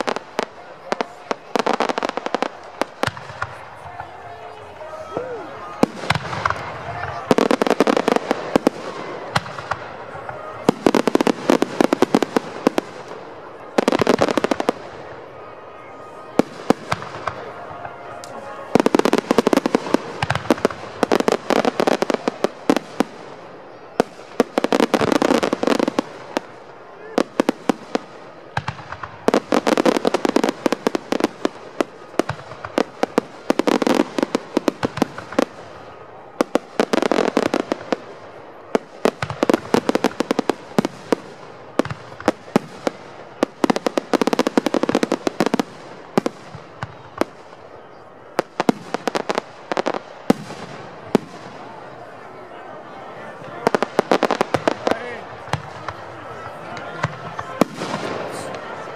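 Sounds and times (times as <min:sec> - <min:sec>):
fireworks crackling pops: 0:00.0 - 0:15.2, 0:16.3 - 0:52.0, 0:53.3 - 0:58.9.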